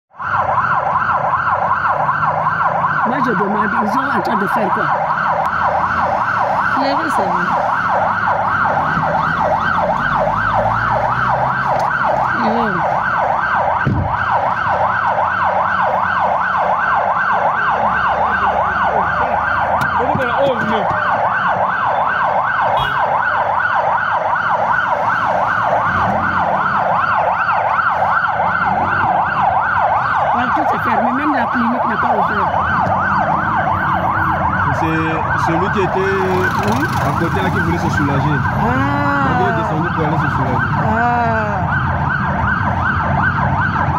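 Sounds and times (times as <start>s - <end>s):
siren warbling: 0.1s - 43.9s.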